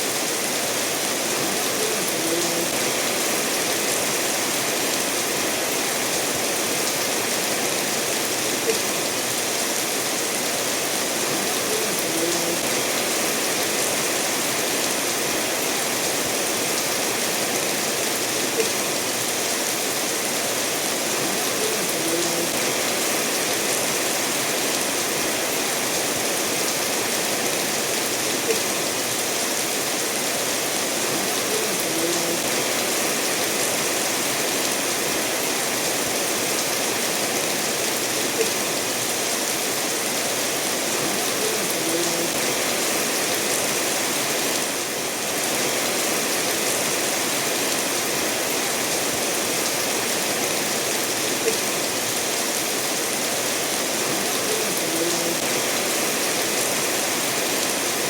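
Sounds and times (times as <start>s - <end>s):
steady rainfall: 0.0s - 58.0s
stream running over stones: 0.0s - 58.0s.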